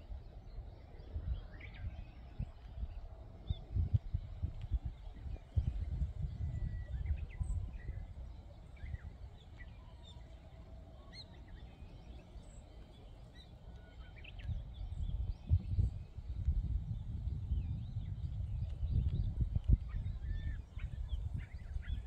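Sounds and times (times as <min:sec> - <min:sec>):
small birds chirping: 0:00.0 - 0:22.0
wind buffeting microphone: 0:00.0 - 0:22.0.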